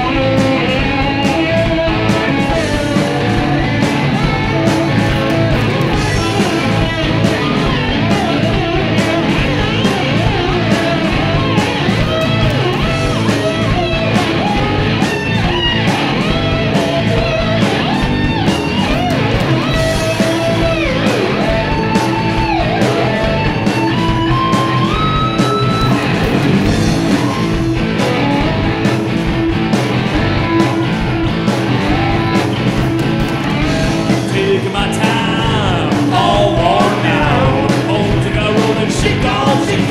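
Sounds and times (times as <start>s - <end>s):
bass guitar: 0.0s - 39.9s
drums: 0.0s - 39.9s
electric guitar bending notes: 0.0s - 39.9s.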